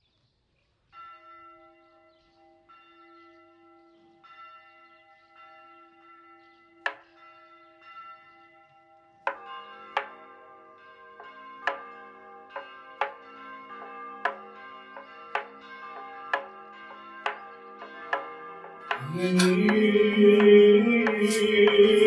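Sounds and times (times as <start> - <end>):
church bell ringing: 0.9 - 22.0.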